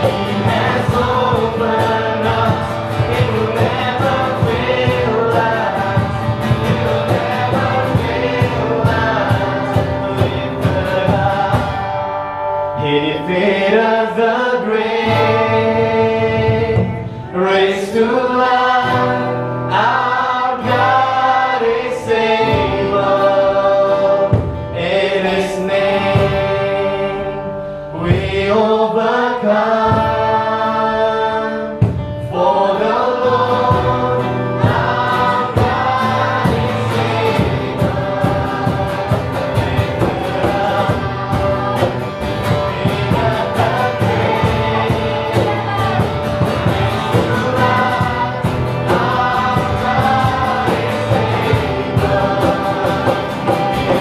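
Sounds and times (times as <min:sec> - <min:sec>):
women singing: 0:00.0 - 0:12.1, 0:12.9 - 0:54.0
cajon beat: 0:00.0 - 0:12.6, 0:14.8 - 0:27.2, 0:28.2 - 0:54.0
strummed acoustic guitars: 0:00.0 - 0:54.0.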